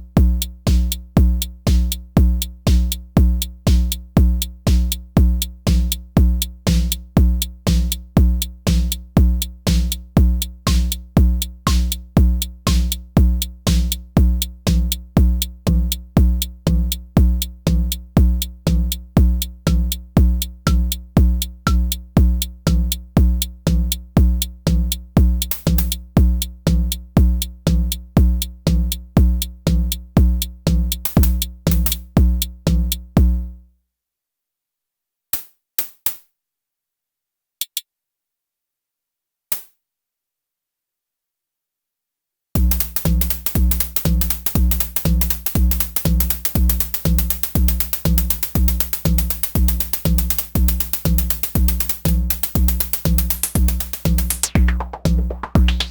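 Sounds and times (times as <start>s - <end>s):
drum machine deep kick: 0.0s - 33.4s, 42.6s - 55.9s.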